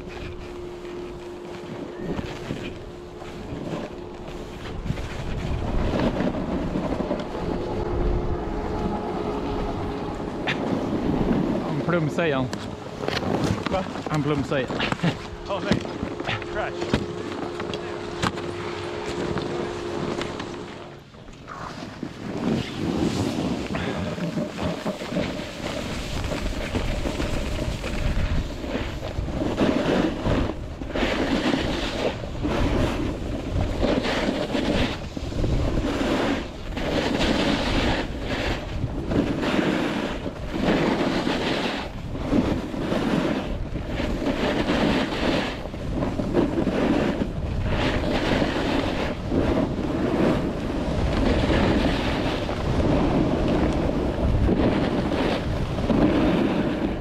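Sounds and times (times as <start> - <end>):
skis scraping on packed snow: 0.0 - 57.0
wind rushing over microphone: 0.0 - 57.0.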